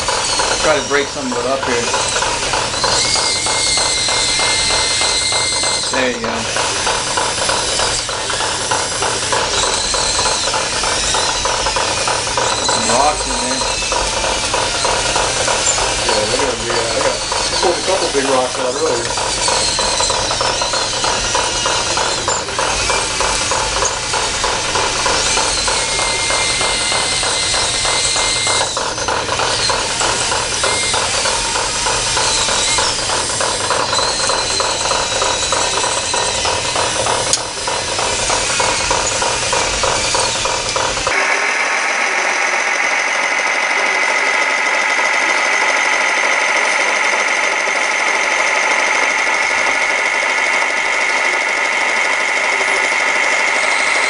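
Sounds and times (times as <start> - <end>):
gear ratcheting with motor whine: 0.0 - 54.0
steady high motor whine: 0.0 - 54.0.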